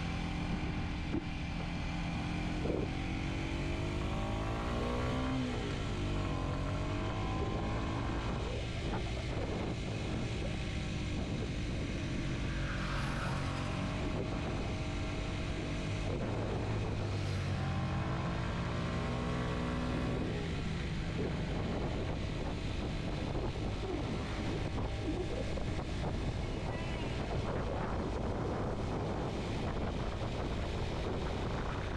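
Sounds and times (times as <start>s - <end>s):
motorcycle engine revving: 0.0s - 31.9s
wind rush: 0.0s - 31.9s.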